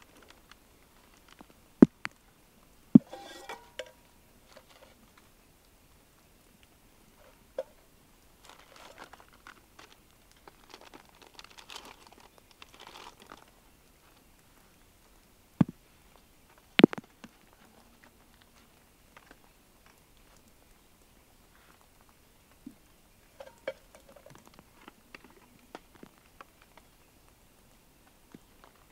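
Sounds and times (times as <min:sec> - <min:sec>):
light rustling and crinkling: 0:00.0 - 0:28.9.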